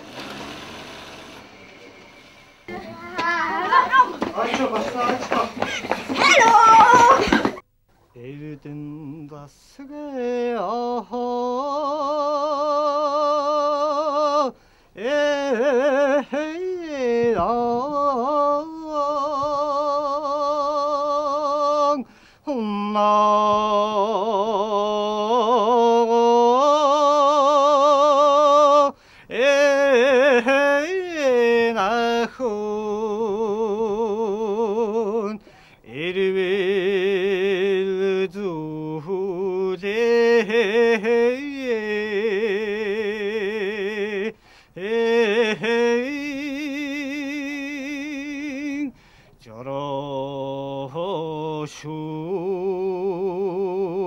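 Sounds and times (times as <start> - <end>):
man singing unaccompanied: 2.7 - 7.5, 8.1 - 54.0.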